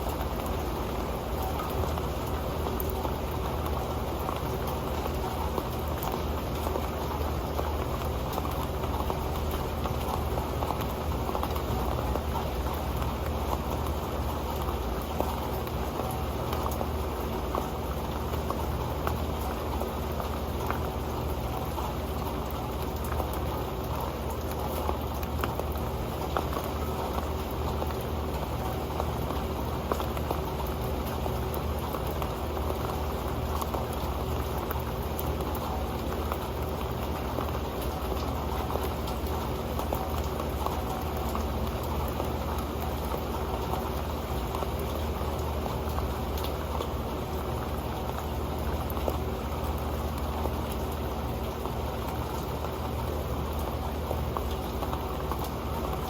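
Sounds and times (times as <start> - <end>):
rain hiss: 0.0 - 56.0
rain pattering on a metal pan: 0.0 - 56.0.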